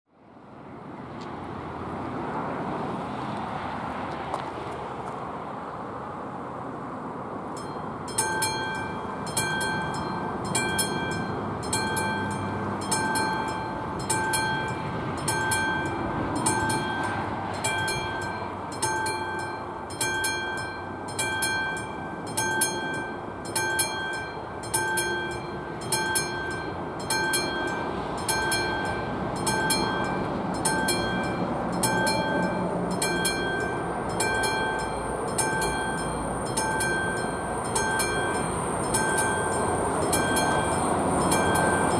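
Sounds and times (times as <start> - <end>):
level-crossing bell ringing: 7.5 - 41.9.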